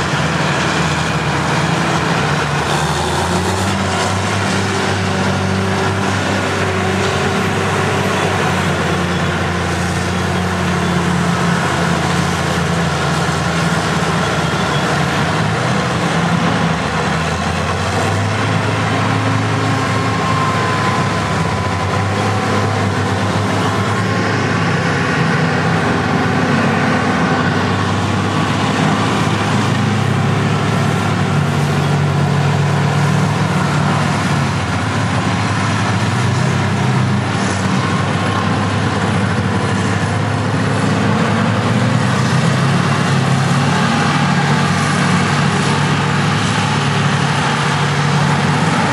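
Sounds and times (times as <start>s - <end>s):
heavy diesel engines under load: 0.0s - 48.9s.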